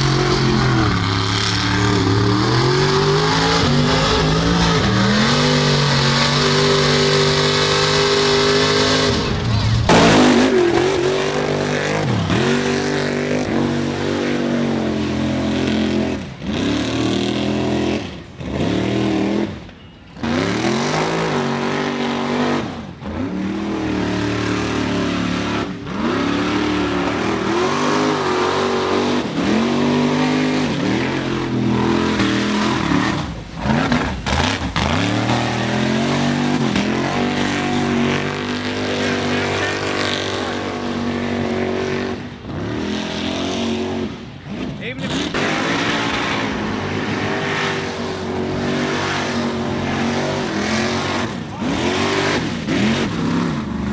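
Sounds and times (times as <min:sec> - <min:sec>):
truck engines revving hard: 0:00.0 - 0:53.9.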